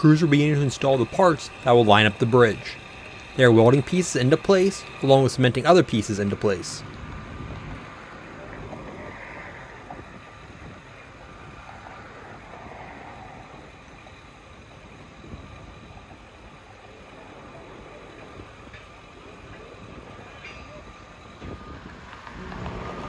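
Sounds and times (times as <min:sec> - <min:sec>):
distant machinery running: 0:00.0 - 0:23.0.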